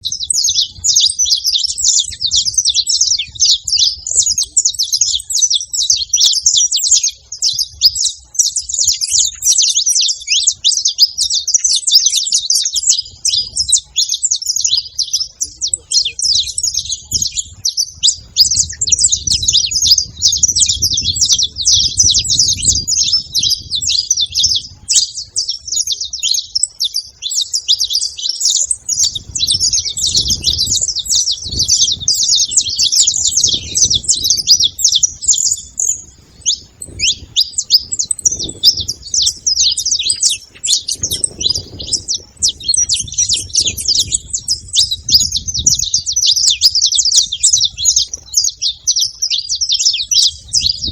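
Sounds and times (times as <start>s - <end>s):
finches chirping: 0.0s - 50.9s.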